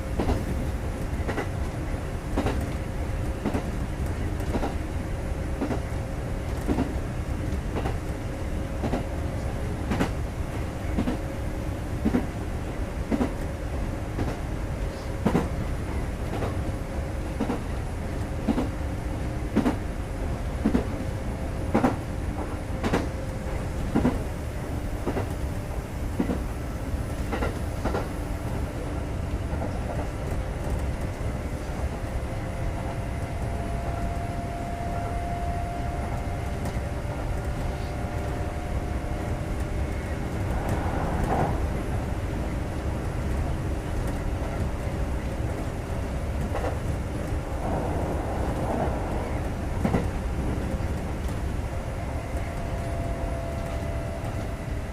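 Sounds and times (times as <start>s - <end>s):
electric train rumbling: 0.0s - 54.9s.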